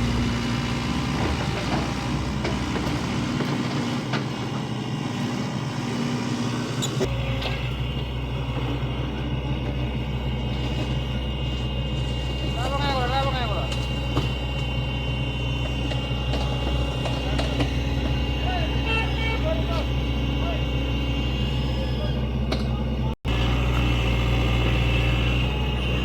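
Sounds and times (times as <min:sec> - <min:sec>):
heavy diesel engine rumbling: 0:00.0 - 0:26.0.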